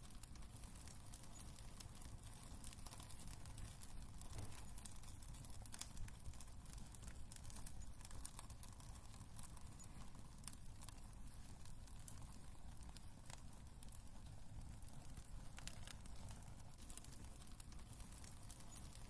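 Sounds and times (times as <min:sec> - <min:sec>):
faint low rumble: 0:00.0 - 0:19.0
wood fire crackling: 0:00.0 - 0:19.0.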